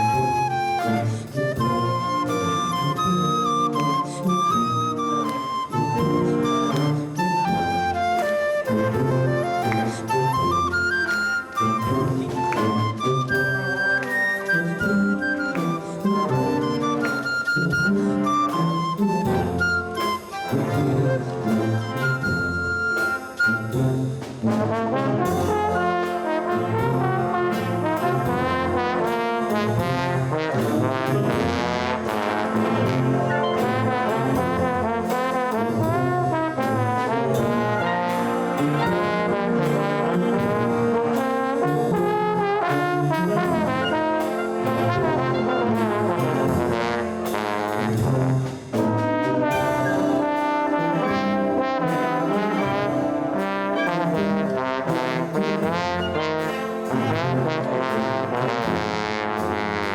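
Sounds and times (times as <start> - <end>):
brass band playing: 0.0 - 59.9.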